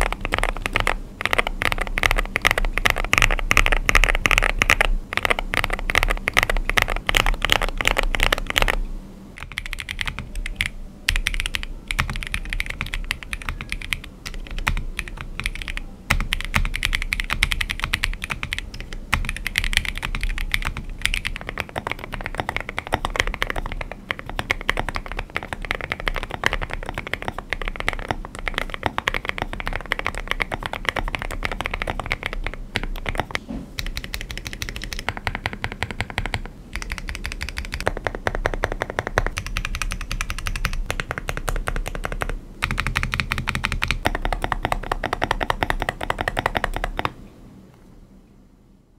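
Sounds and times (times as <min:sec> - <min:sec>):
fast mechanical keyboard typing: 0:00.0 - 0:08.8, 0:09.4 - 0:47.2.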